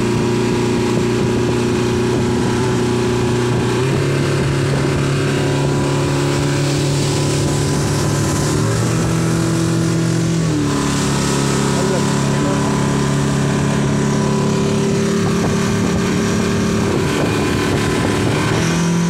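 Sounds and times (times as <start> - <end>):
outboard motor running: 0.0 - 19.0
water rushing from wake: 0.0 - 19.0.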